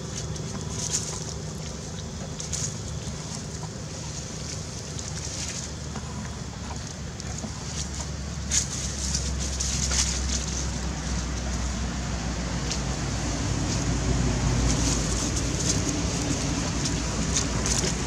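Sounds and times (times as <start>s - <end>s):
dry leaves crackling and rustling: 0.0s - 5.9s, 7.6s - 18.0s
steady low rumble: 0.0s - 18.0s.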